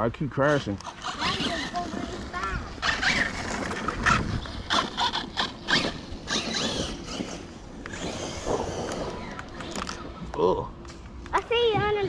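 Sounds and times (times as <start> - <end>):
rc car motor whining: 0.5 - 10.2.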